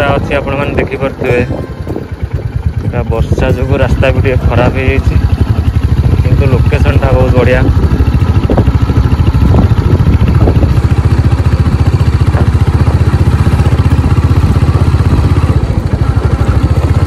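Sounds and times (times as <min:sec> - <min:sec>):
clatter on dirt road: 0:00.0 - 0:17.0
motorcycle engine running: 0:00.0 - 0:17.0.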